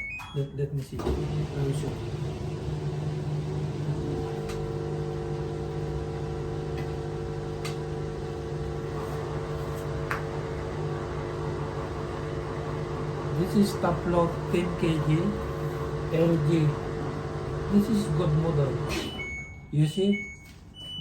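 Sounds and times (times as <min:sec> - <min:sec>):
washing machine electrical hum: 0:00.0 - 0:21.0.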